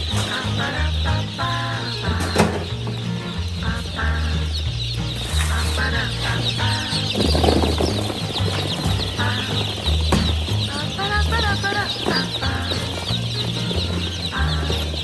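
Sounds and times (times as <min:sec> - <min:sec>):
background music with bass line: 0:00.0 - 0:15.0
chicks peeping: 0:00.0 - 0:15.0.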